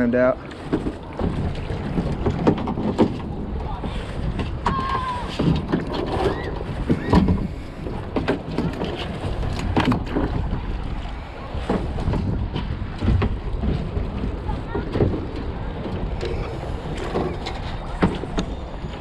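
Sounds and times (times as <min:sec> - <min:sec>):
water noise: 0:00.0 - 0:19.0
wind buffeting microphone: 0:00.0 - 0:19.0
knocks and scrapes against kayak: 0:00.1 - 0:19.0.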